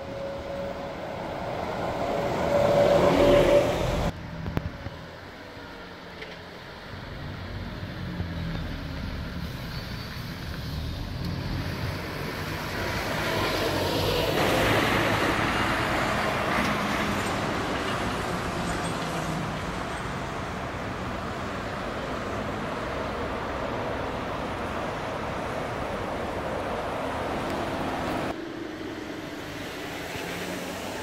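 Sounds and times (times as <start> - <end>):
city buses driving past: 0.0 - 31.0
steady traffic noise: 0.0 - 31.0.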